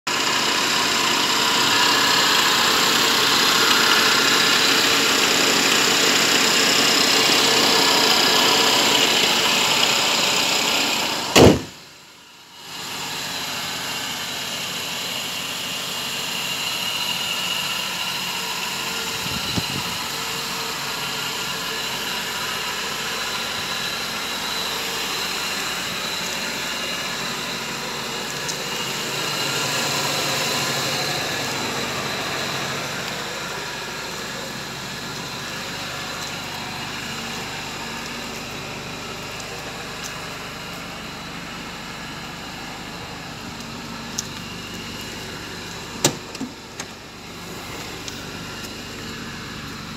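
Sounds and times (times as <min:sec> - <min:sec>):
car engine idling: 0:00.1 - 0:49.9.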